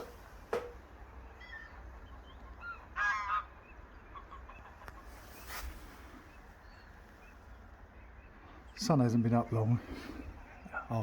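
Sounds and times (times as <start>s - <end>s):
waterbirds calling: 0.0s - 11.0s.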